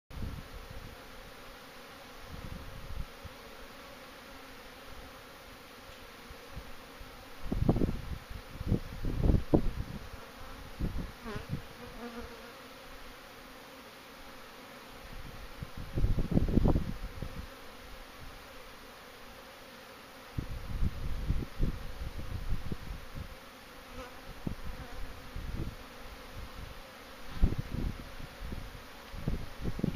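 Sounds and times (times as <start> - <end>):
bee passing close by: 0.2 - 29.9
bees buzzing: 0.2 - 29.9.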